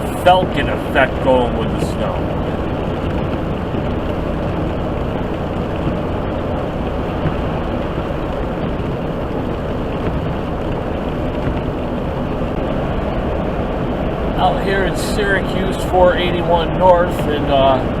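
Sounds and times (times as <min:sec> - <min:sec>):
truck driving on highway: 0:00.0 - 0:18.0.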